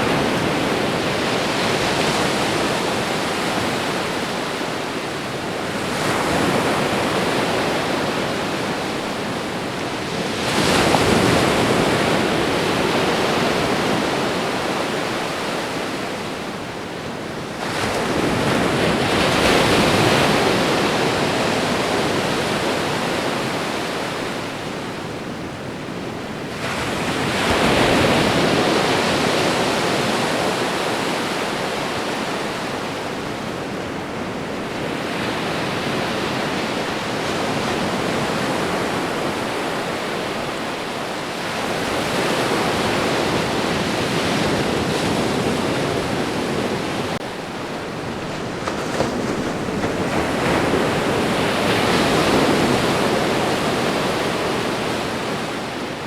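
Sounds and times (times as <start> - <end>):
ocean surf washing on shore: 0.0 - 56.0.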